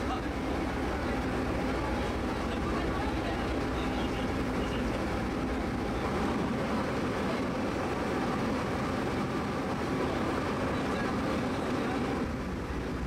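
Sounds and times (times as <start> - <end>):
boat engine drone: 0.0 - 13.0
wind: 0.0 - 13.0.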